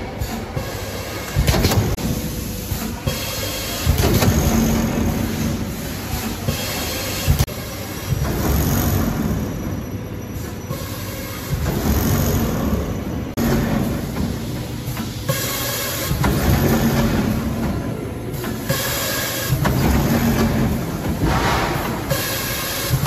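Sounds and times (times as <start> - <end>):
packing machine rumble and clatter: 1.2 - 23.0.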